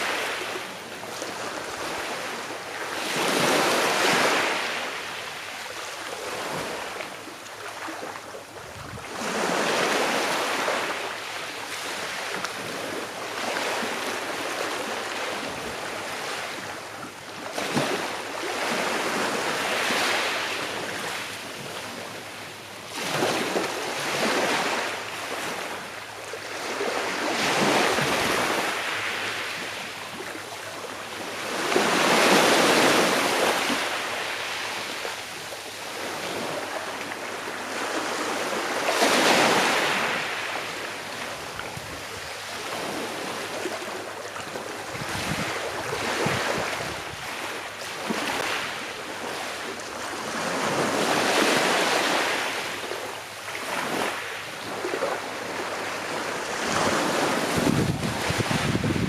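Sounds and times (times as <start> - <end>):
small sea waves breaking: 0.0 - 22.2, 22.9 - 59.0.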